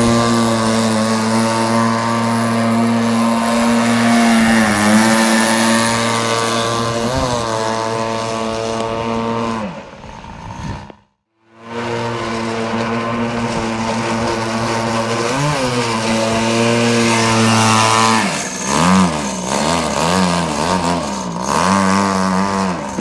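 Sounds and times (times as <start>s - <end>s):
two-stroke engine at high revs: 0.0s - 23.0s.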